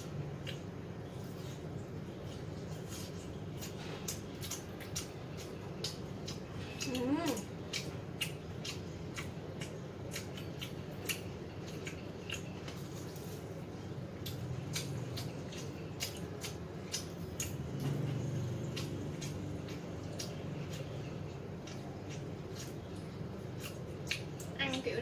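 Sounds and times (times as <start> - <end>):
crunching and chewing fried chicken: 0.0 - 25.0.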